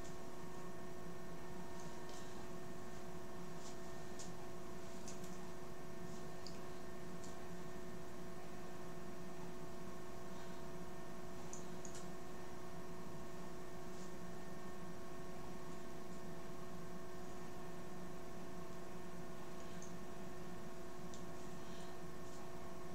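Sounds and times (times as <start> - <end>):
electrical hum: 0.0 - 22.9.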